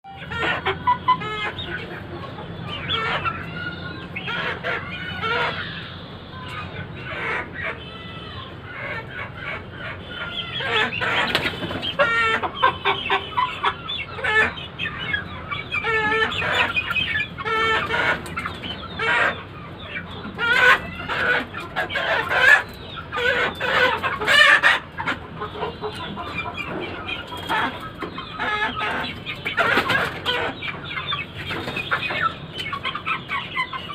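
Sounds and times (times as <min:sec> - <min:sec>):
chickens clucking and calling: 0:00.0 - 0:33.9.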